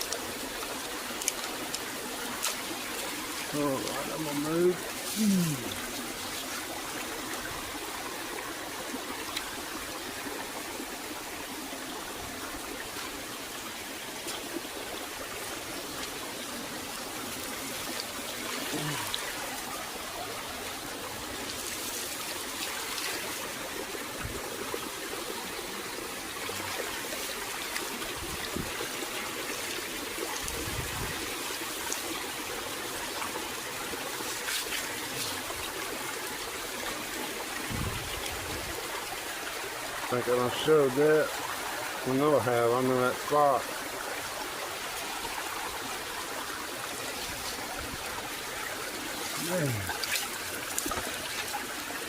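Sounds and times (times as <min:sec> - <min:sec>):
stream water trickling: 0:00.0 - 0:52.0.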